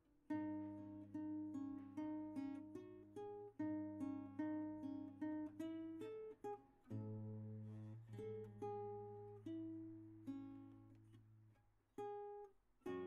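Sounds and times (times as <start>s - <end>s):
plucked string notes: 0.3s - 11.2s.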